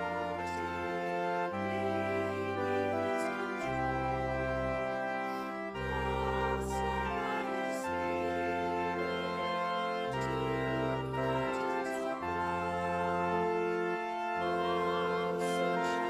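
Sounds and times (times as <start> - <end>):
choir singing a hymn: 0.0 - 16.0
organ sustained chords: 0.0 - 16.0.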